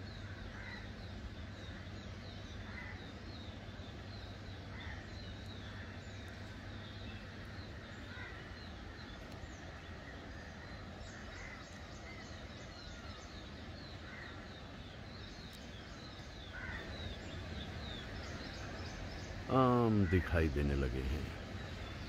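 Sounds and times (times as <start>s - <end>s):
birds chirping: 0.0s - 22.0s
wind: 0.0s - 22.0s.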